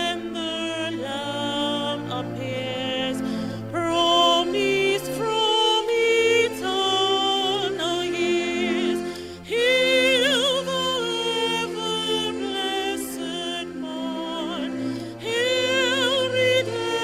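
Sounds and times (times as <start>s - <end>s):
sustained backing accompaniment: 0.0s - 17.0s
woman singing with vibrato: 0.0s - 17.0s.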